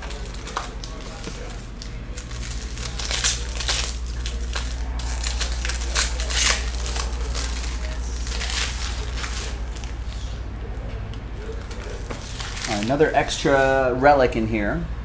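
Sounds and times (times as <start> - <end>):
plastic wrapping crinkling: 0.0 - 13.8.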